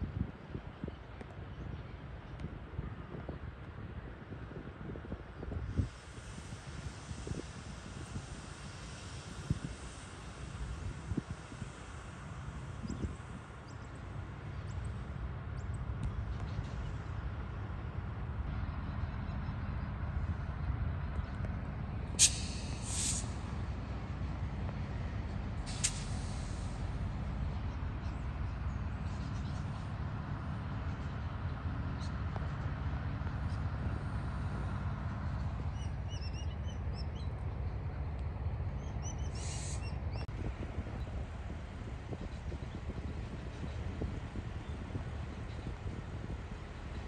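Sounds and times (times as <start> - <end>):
diesel locomotive rumbling: 0.0 - 47.0.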